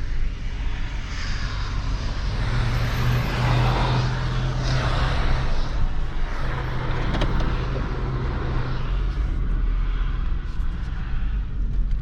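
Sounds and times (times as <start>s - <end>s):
road and mechanical rush: 0.0s - 12.0s
truck engine hum: 2.0s - 12.0s.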